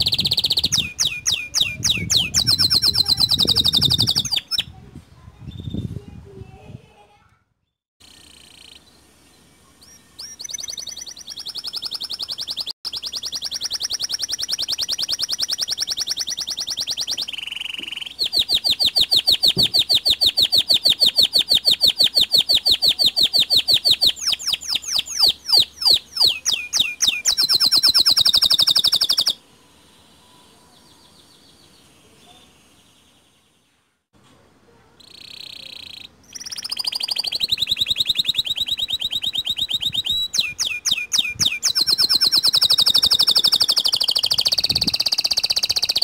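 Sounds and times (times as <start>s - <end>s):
canary singing trills: 0.0s - 4.8s, 8.0s - 29.4s, 35.0s - 46.0s.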